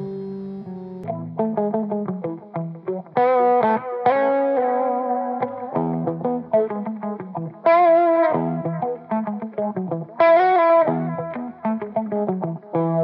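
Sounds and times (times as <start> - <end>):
distorted electric guitar: 0.0 - 13.0
sustained guitar tone: 0.0 - 13.0.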